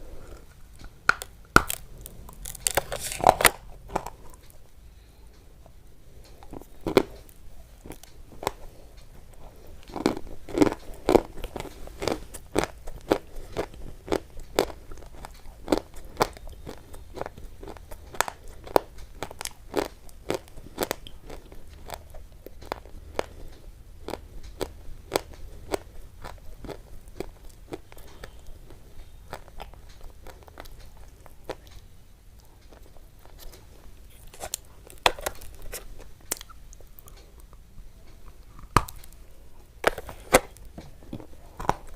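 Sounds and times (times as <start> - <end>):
crisp crunching cracks: 0.8 - 4.6, 6.2 - 31.8, 32.4 - 37.6, 38.4 - 39.2.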